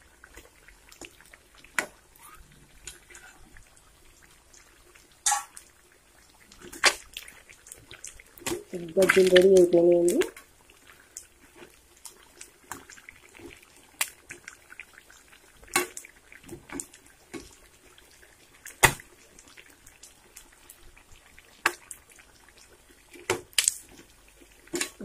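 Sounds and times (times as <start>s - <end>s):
food deep-frying in oil: 0.0s - 25.0s.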